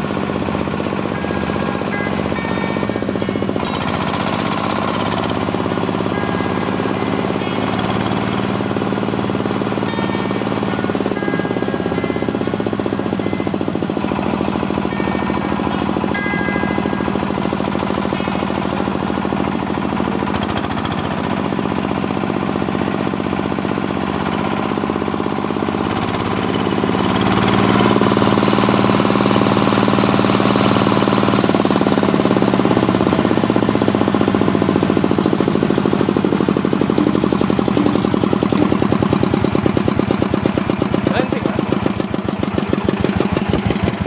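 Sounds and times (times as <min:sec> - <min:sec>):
small diesel engine thudding: 0:00.0 - 0:44.0.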